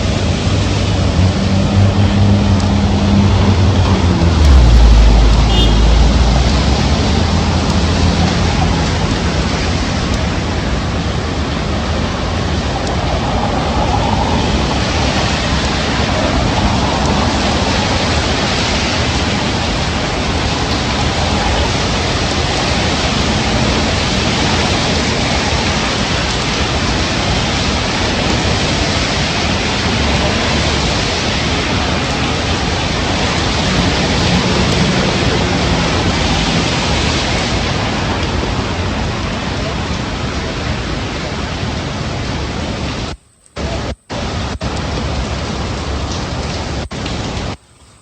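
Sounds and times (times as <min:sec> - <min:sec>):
heavy rain in strong wind: 0:00.0 - 0:48.0.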